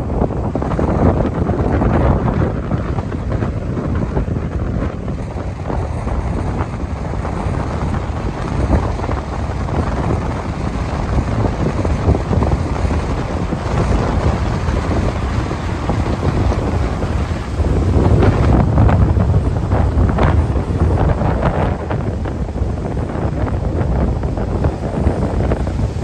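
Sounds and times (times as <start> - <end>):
surf breaking on rocky shore: 0.0 - 26.0
wind buffeting microphone: 0.0 - 26.0.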